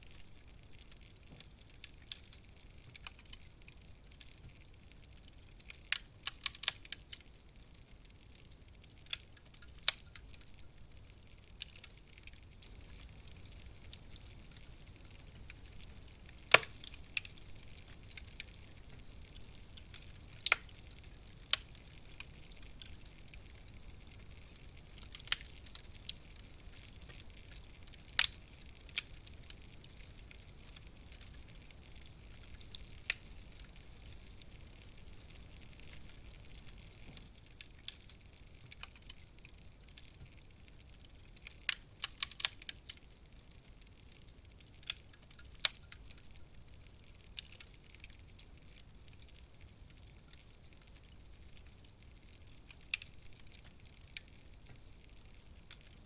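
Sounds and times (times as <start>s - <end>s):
soft hiss: 0.0s - 56.0s
wood fire crackling pops: 0.0s - 56.0s.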